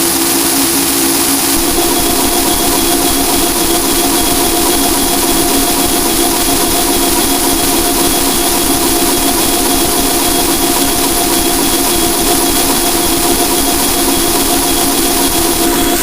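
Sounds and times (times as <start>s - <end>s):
dense static noise: 0.0s - 16.0s
steady droning tones: 0.2s - 16.0s.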